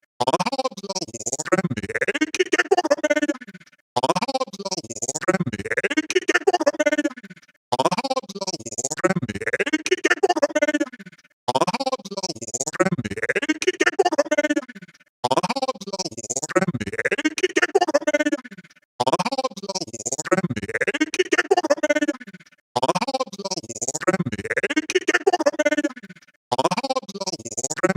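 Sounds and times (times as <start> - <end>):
stuttering robotic voice: 0.0 - 27.9.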